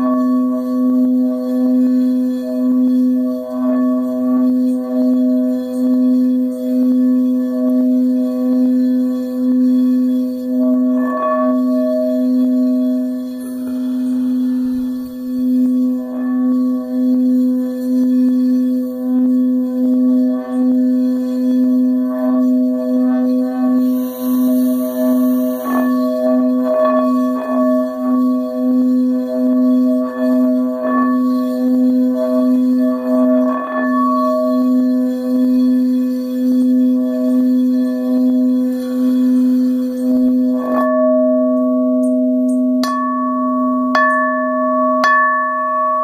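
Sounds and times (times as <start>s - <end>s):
mallet rubbing bowl rim: 0.0s - 46.0s
singing bowl tone: 0.0s - 46.0s.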